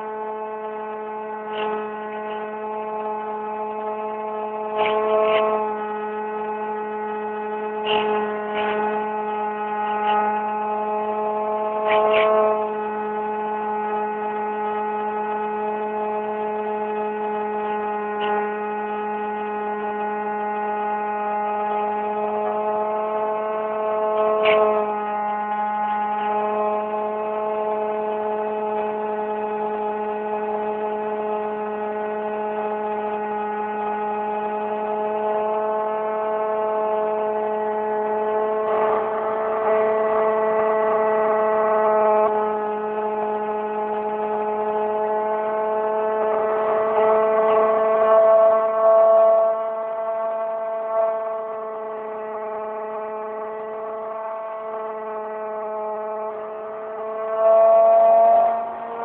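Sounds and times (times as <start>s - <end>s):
electric propeller motor droning: 0.0s - 59.0s.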